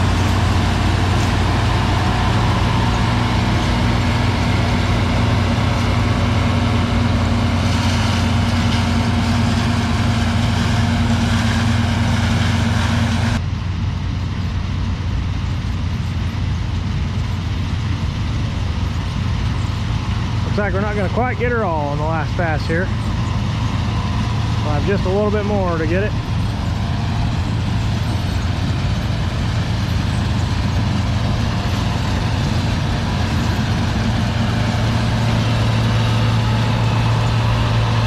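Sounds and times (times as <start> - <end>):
combine harvester engine drone: 0.0 - 38.0.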